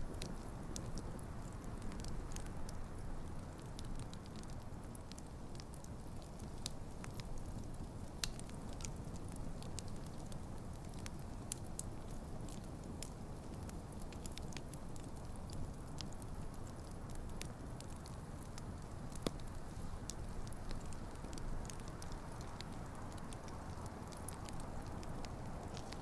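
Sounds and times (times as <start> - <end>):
burning logs crackling and popping: 0.0 - 26.0
campfire flames rumbling: 0.0 - 26.0.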